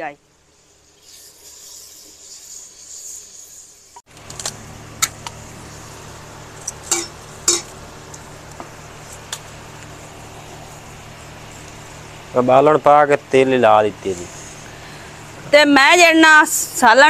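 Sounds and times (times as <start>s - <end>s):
steady low hum: 0.0s - 17.0s
hissing sizzle: 0.2s - 17.0s.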